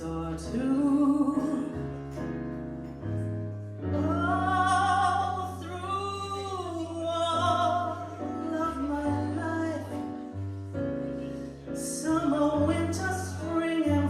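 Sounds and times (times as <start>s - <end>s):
person singing a slow ballad: 0.0s - 14.0s.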